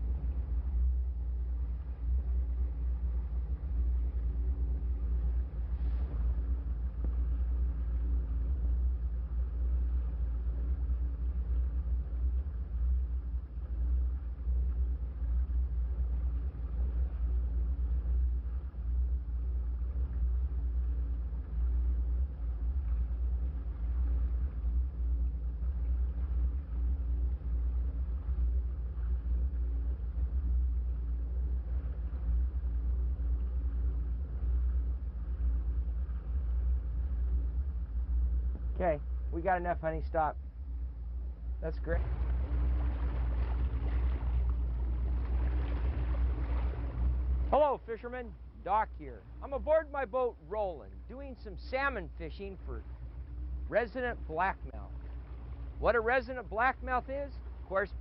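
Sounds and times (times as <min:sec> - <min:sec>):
boat engine rumbling: 0:00.0 - 0:58.0.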